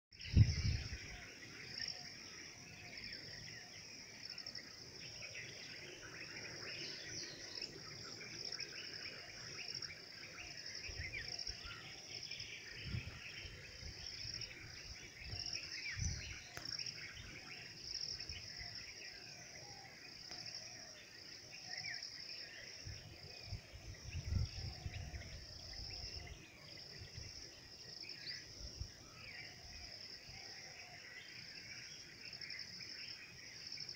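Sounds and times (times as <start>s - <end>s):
insects droning: 0.2s - 33.9s.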